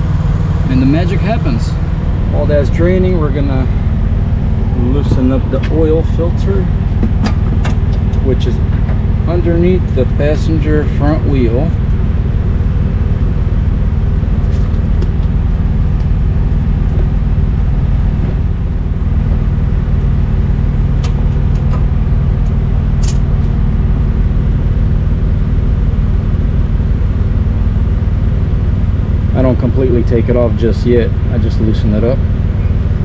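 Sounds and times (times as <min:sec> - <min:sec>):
engine running with low rumble: 0:00.0 - 0:33.0.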